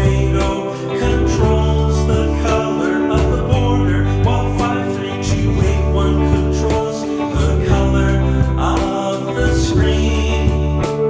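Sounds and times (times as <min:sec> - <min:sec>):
guitar music over a beat: 0:00.0 - 0:11.0
heavy bass line: 0:00.0 - 0:11.0.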